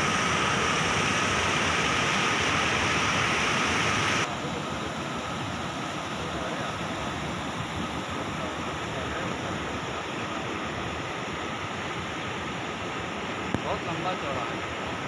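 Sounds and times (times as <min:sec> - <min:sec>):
stream water rushing over boulders: 0:00.0 - 0:15.0.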